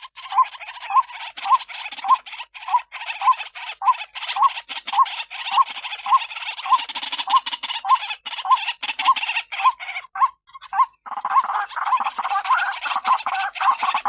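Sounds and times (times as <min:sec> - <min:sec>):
waterhen croaking calls: 0:00.0 - 0:14.0.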